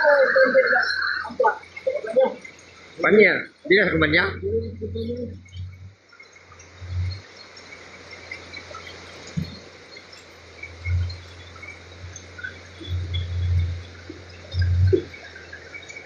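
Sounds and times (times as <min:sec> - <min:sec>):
faint insect chirps: 0:00.0 - 0:16.0
low rumbles: 0:00.0 - 0:16.0
steady hiss: 0:00.0 - 0:16.0.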